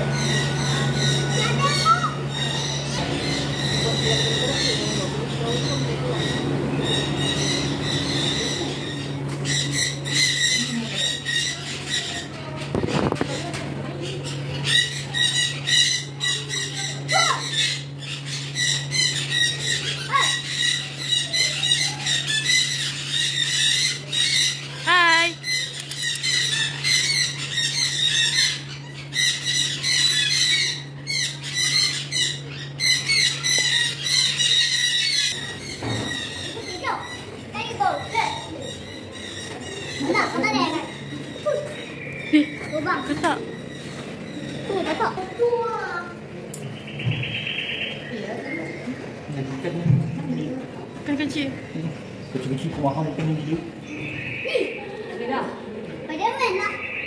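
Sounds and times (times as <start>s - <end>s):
parrots chattering and squawking: 0.0s - 57.0s.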